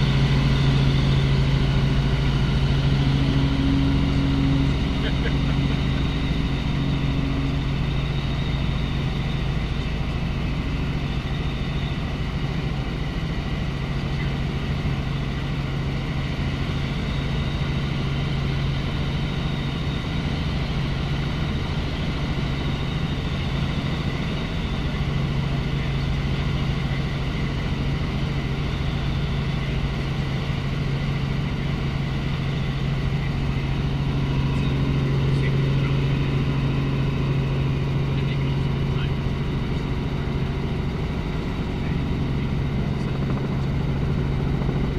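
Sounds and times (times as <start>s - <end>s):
helicopter engine and rotor drone: 0.0s - 44.9s.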